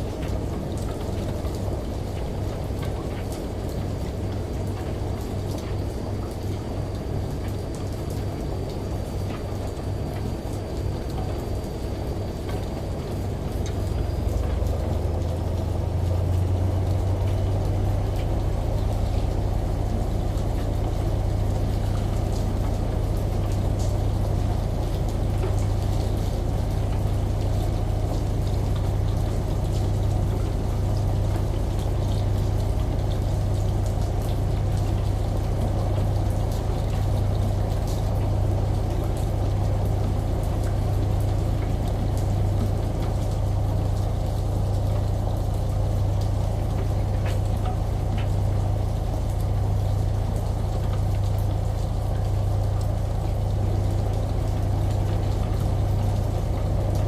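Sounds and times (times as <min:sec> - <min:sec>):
washing machine motor hum: 0:00.0 - 0:57.0
water rushing in washing machine: 0:00.0 - 0:57.0.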